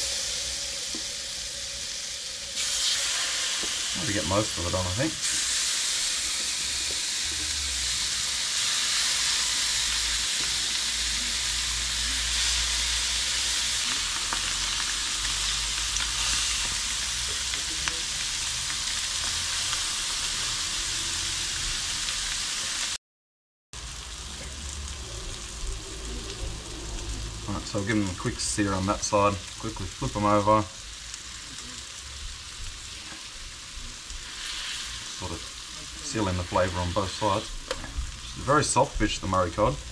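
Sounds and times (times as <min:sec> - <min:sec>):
fish sizzling on a grill plate: 0:00.0 - 0:23.0, 0:23.8 - 0:39.9.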